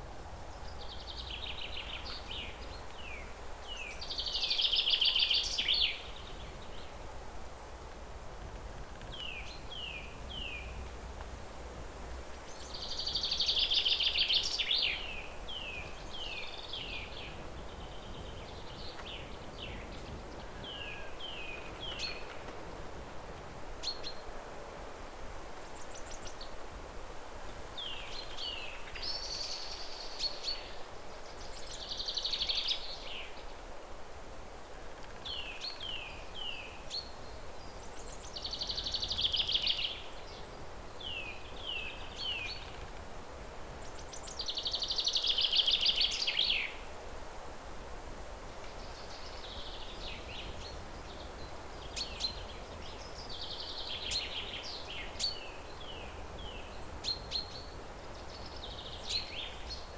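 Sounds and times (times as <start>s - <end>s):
songbirds singing: 0.0s - 26.7s, 27.4s - 33.7s, 34.7s - 47.0s, 48.6s - 59.9s
outdoor background hiss: 0.0s - 59.9s.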